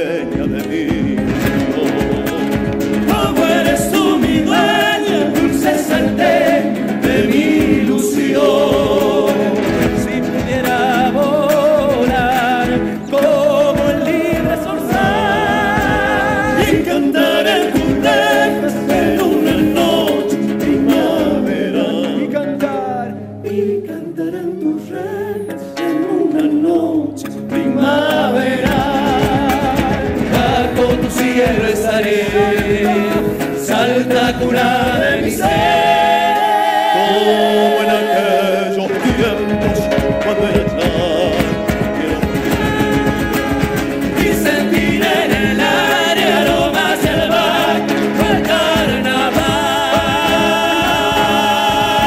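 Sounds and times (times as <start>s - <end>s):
bass drum beat: 0.0s - 21.4s, 28.5s - 36.8s, 39.0s - 52.0s
strummed acoustic guitars: 0.0s - 52.0s
voices singing together: 0.0s - 52.0s.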